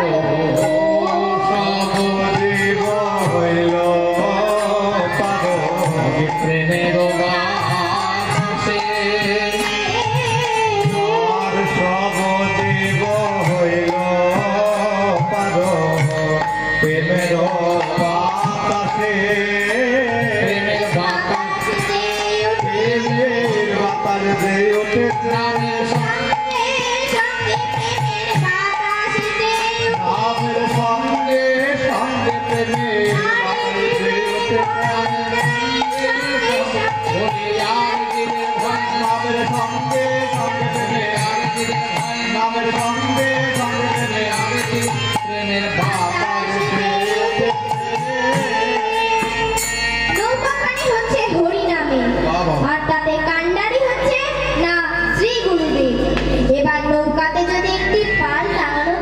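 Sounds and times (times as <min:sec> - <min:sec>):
harmonium: 0:00.0 - 0:59.0
person singing devotional melody: 0:00.0 - 0:59.0.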